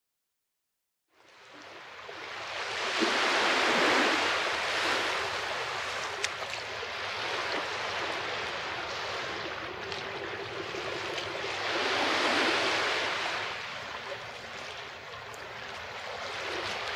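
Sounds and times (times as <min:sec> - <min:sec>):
sea waves washing on shore: 0:01.3 - 0:16.9.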